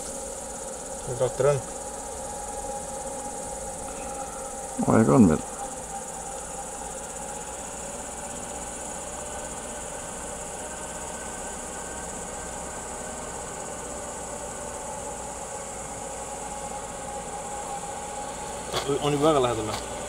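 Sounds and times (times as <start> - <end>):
crickets chirring: 0.0 - 20.0
distant tractor engine hum: 0.0 - 20.0.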